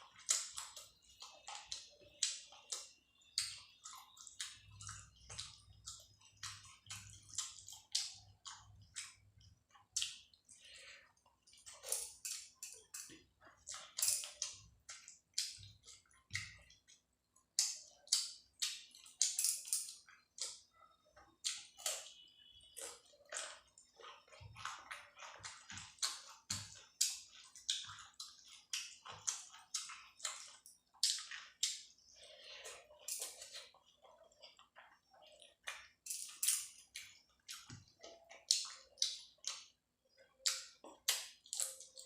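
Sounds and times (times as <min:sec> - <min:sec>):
person chewing food wetly: 0:00.0 - 0:42.0.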